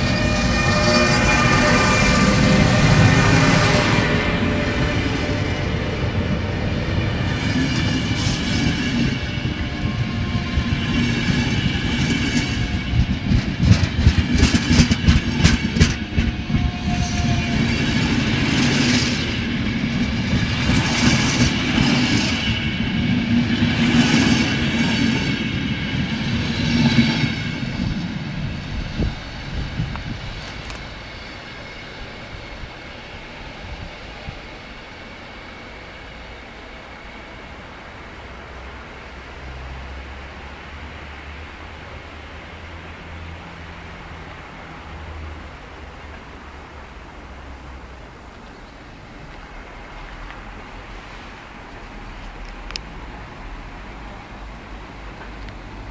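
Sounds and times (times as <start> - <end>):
train coaches rumbling past: 0.0 - 55.9.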